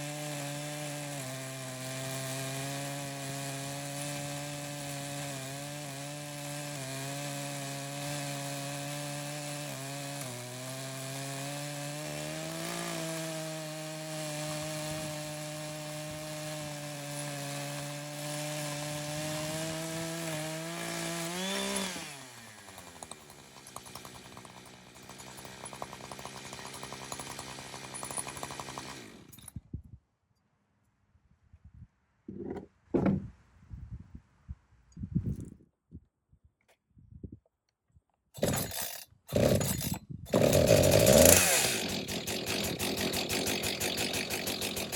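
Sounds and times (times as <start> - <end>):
chainsaw cutting wood: 0.0 - 29.6, 38.4 - 44.9.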